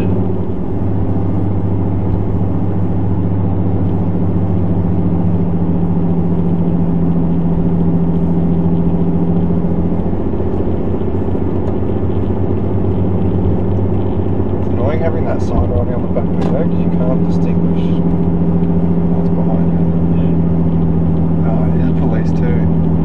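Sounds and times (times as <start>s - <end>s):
engine and exhaust drone: 0.0s - 23.0s
road noise: 0.0s - 23.0s.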